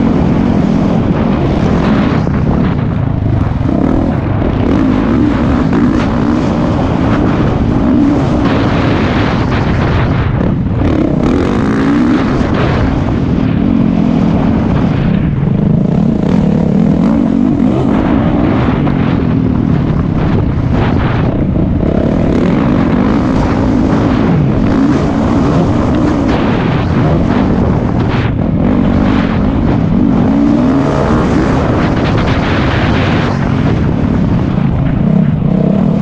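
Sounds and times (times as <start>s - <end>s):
motocross bike engine racing: 0.0s - 36.0s.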